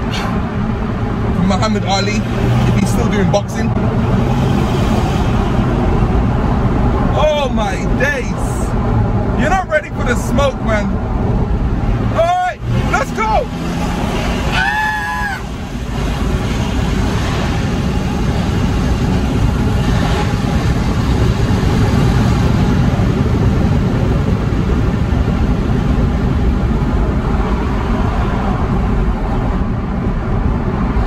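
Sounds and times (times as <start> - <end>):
diesel engine accelerating: 0.0 - 31.0
road and wind noise: 0.0 - 31.0.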